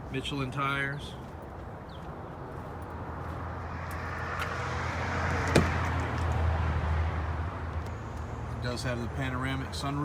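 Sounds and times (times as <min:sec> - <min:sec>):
vehicle approaching on road: 0:01.0 - 0:10.0.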